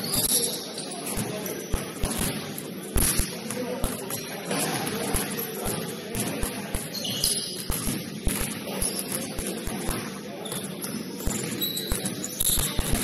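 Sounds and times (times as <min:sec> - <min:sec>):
sneaker squeaks: 0:00.0 - 0:02.4, 0:03.0 - 0:13.0
crowd hubbub in gym: 0:00.0 - 0:13.0
basketball bouncing on court: 0:01.0 - 0:13.0.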